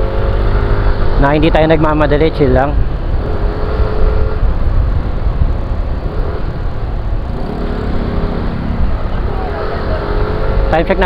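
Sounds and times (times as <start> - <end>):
faint engine tones: 0.0 - 11.0
road and engine noise: 0.0 - 11.0
wind rumble on microphone: 0.0 - 11.0.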